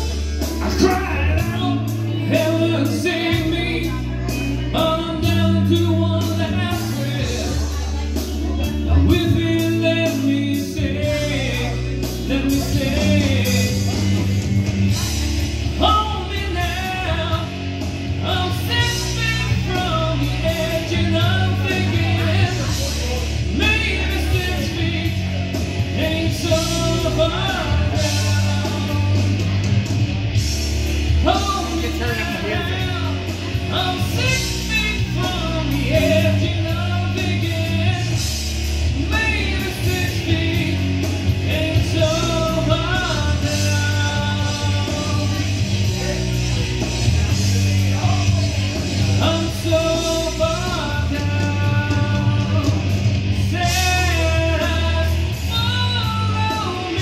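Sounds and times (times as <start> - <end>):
man singing into a microphone: 0.0 - 30.0, 31.0 - 57.0
rock backing track: 0.0 - 57.0.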